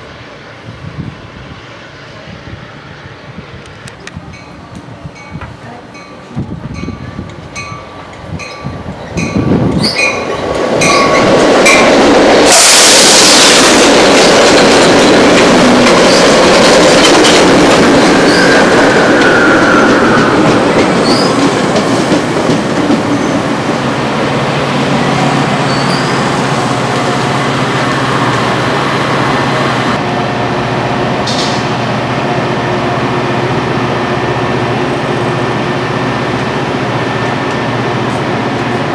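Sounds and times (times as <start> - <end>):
train passing at speed: 0.0 - 38.9.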